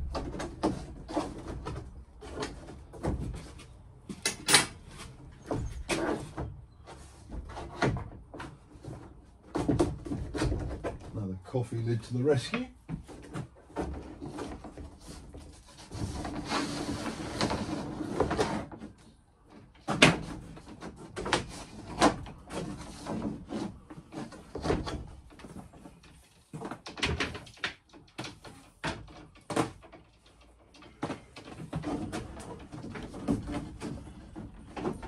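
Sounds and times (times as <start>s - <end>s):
knocks and taps on ceiling panels: 0.0s - 11.3s, 12.5s - 35.0s
scraping and rustling: 0.0s - 35.0s.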